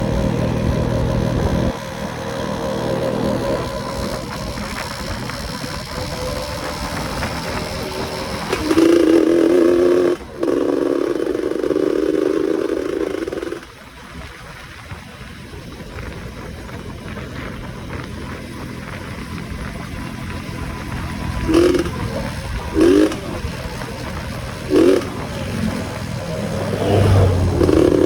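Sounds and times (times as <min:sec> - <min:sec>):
road noise: 0:00.0 - 0:28.0
two-stroke moped engine: 0:00.0 - 0:28.0.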